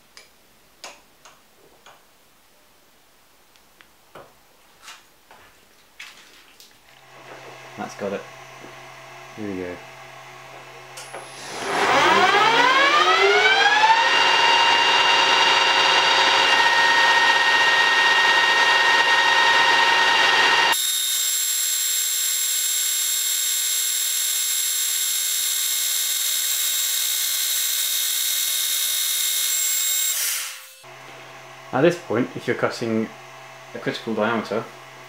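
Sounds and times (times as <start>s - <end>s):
lathe motor whining: 6.9s - 35.0s.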